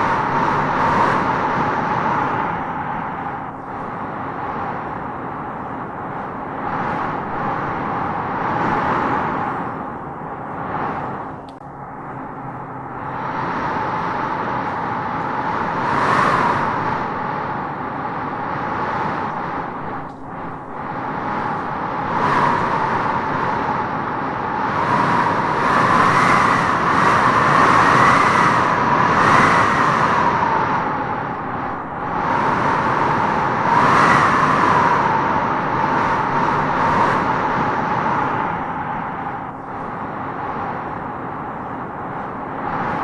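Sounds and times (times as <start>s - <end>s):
gusty wind whistling: 0.0s - 43.0s.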